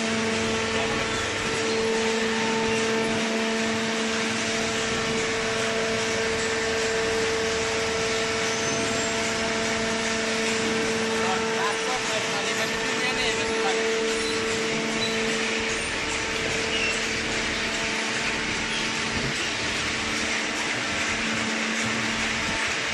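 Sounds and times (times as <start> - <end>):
hydraulic baler machine hum: 0.0 - 22.9.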